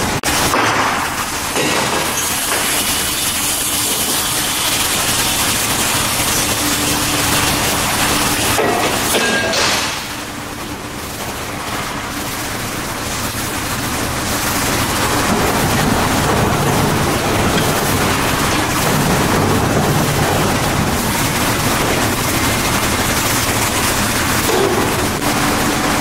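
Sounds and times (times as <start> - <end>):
heavy machinery rattling: 0.0 - 26.0.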